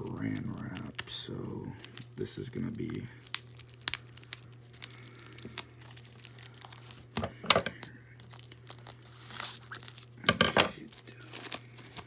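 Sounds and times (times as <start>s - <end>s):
plastic cling film crinkling: 0.0s - 12.0s.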